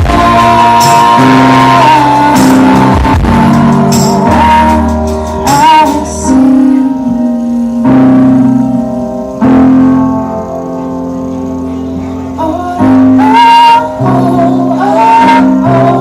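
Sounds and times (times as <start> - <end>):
band playing with singing: 0.0 - 9.1, 11.7 - 16.0.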